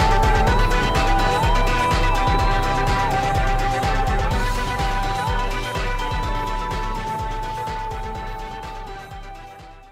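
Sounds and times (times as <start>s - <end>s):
music with drum beat: 0.0s - 9.9s.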